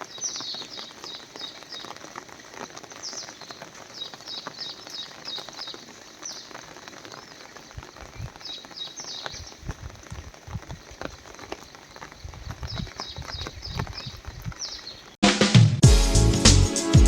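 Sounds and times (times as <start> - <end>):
birds chirping: 0.0 - 15.2.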